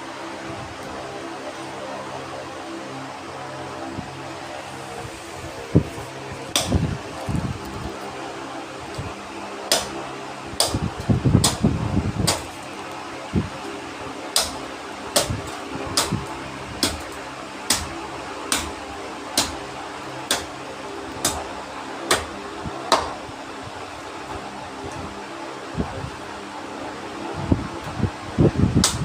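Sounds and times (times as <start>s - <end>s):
fan-like hum: 0.0s - 29.0s.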